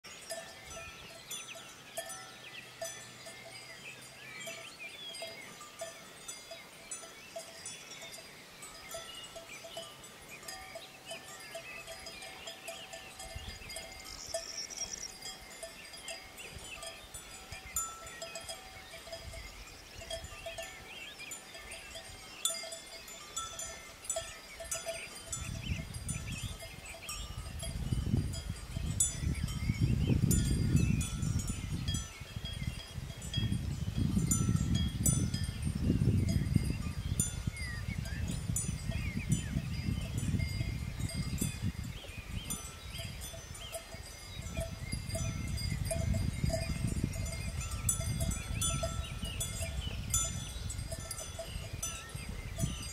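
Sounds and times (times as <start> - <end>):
birds chirping: 0.1 - 52.9
cow bell clinking: 0.1 - 52.9.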